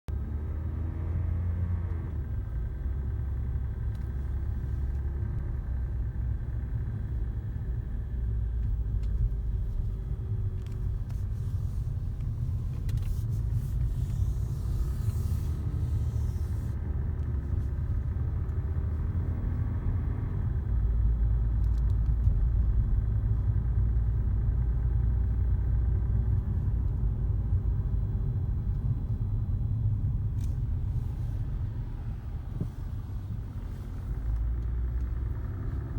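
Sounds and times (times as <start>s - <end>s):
road and engine rumble: 0.0s - 35.9s.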